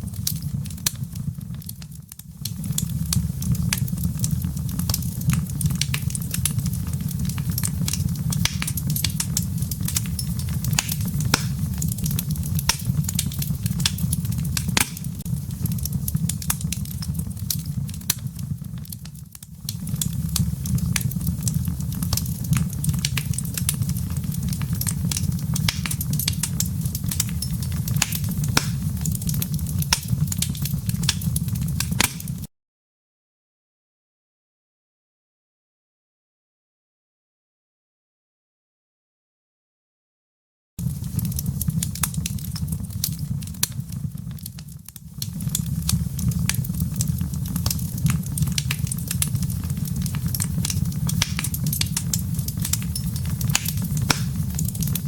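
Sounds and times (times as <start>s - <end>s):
low rumble of flames: 0.0s - 32.5s, 40.8s - 55.0s
wood fire pops and snaps: 0.0s - 32.5s, 40.8s - 55.0s.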